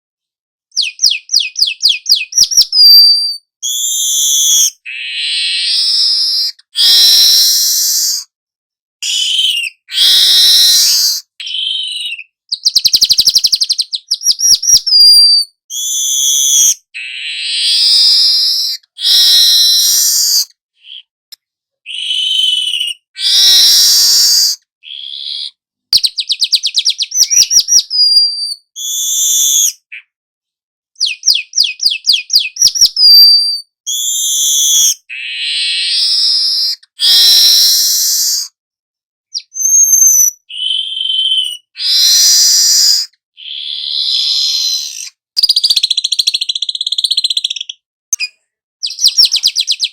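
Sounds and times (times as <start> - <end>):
weaver bird singing: 0.7 - 8.2, 9.0 - 21.1, 21.9 - 30.1, 31.0 - 38.4, 39.3 - 49.9.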